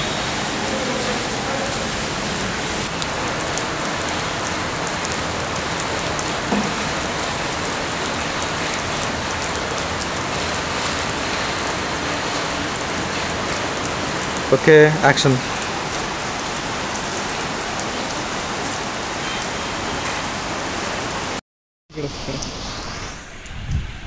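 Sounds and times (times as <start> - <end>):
steady rain on grass and puddles: 0.0 - 21.4.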